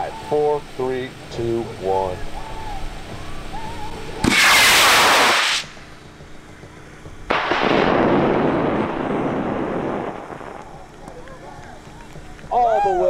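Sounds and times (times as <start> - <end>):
duller rocket rush: 0.0 - 13.0
rocket motor hissing rush: 0.0 - 13.0.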